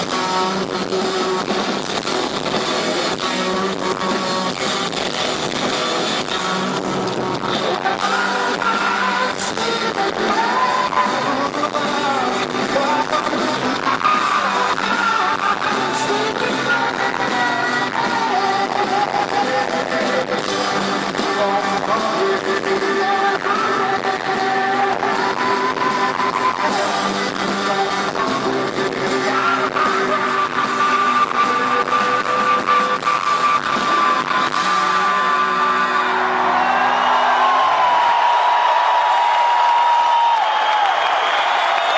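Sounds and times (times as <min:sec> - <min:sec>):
person singing: 0:00.0 - 0:36.7
electric guitars: 0:00.0 - 0:41.9
rock band playing: 0:00.0 - 0:41.9.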